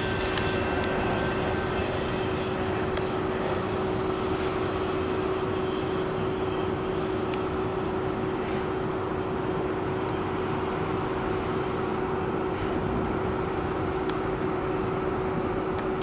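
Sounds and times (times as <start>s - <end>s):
constant hum: 0.0s - 16.0s
train wheels rumbling on rail: 0.0s - 16.0s.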